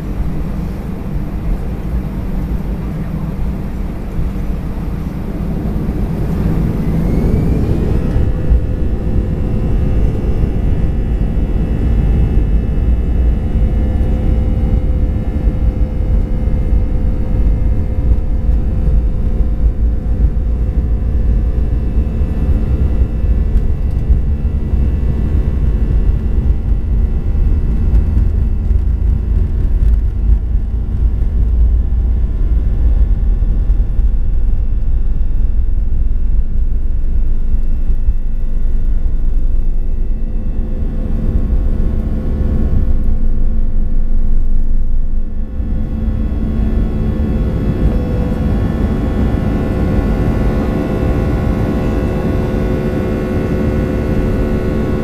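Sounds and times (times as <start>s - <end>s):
jet engines whining and rumbling: 0.0s - 55.0s.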